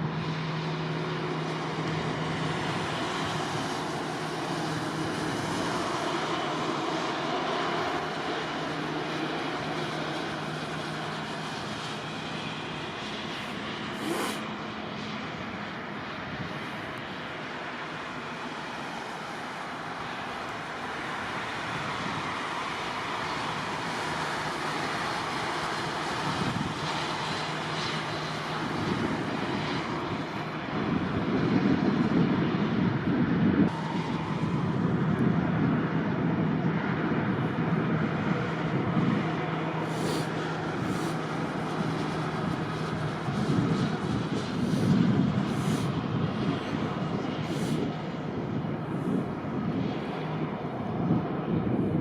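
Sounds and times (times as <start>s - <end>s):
jet engines rushing: 0.0s - 52.0s.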